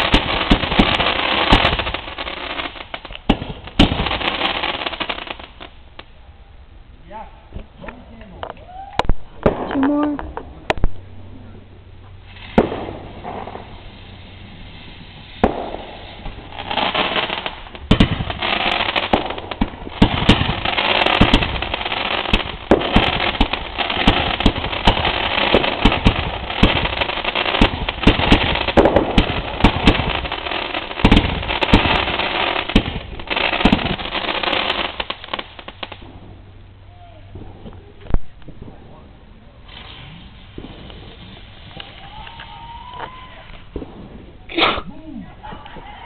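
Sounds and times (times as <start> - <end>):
firework crackling bangs: 0.0 - 6.1, 9.0 - 11.4, 12.0 - 44.5.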